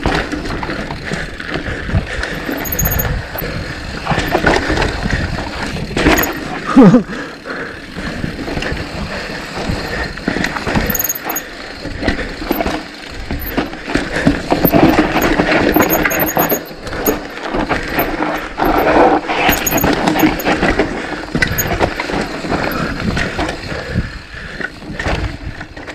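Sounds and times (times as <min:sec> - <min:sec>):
bike knocks and rattles: 0:00.0 - 0:06.8, 0:08.1 - 0:24.0
bike tyres on dirt trail: 0:00.0 - 0:25.9.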